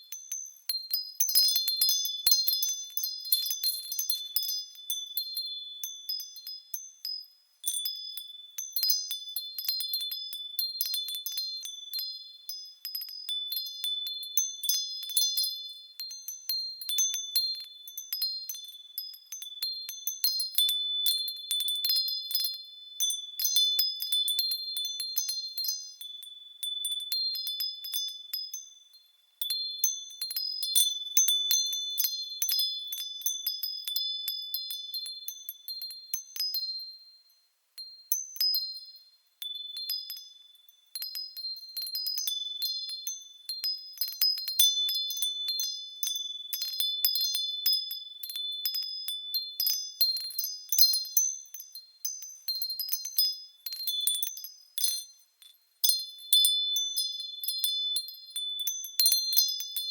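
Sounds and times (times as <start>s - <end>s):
wind chimes ringing: 0.0s - 59.9s.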